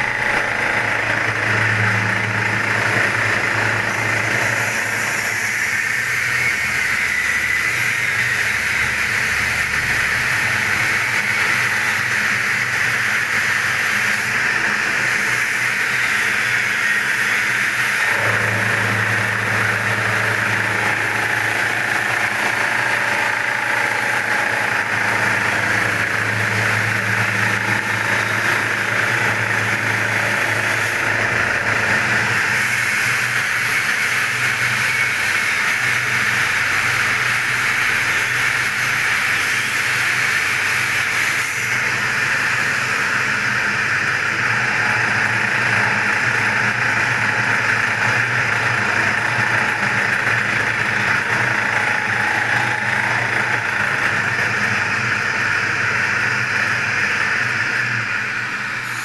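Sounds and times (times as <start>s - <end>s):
machine hiss: 3.6s - 59.0s.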